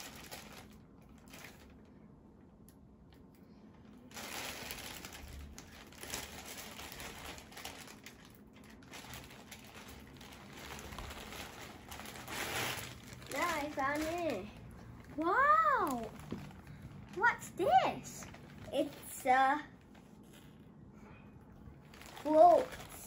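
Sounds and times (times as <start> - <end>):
plastic bag crinkling: 0.0 - 1.9, 3.9 - 20.6, 21.7 - 23.0.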